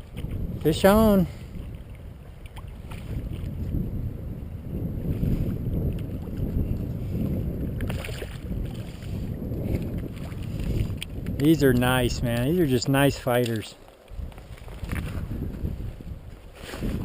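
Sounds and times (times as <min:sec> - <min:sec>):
flowing river water: 0:00.0 - 0:17.0
wind buffeting microphone: 0:00.0 - 0:17.0.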